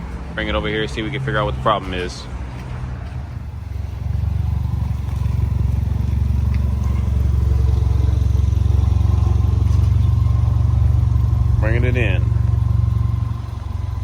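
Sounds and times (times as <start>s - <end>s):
deep rumbly car exhaust: 0.0s - 14.0s.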